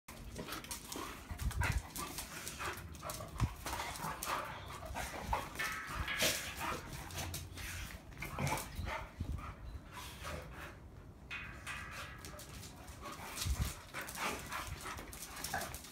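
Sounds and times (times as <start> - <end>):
dogs play-fighting noises: 0.1 - 15.9.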